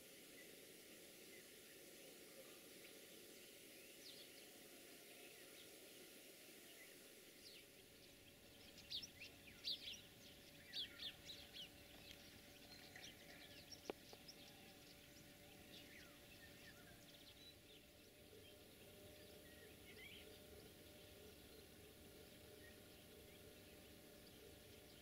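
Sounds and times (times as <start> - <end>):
faint outdoor hiss: 0.0 - 25.0
small birds chirping: 0.0 - 25.0.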